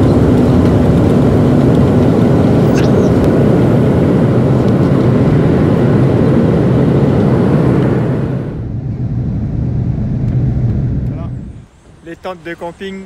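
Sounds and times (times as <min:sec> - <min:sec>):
airliner cabin drone: 0:00.0 - 0:13.0
jet engines roaring: 0:00.0 - 0:13.0.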